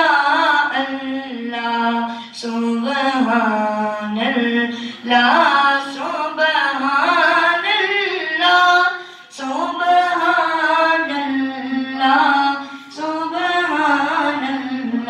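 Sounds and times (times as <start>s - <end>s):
boy singing unaccompanied: 0.0s - 15.0s.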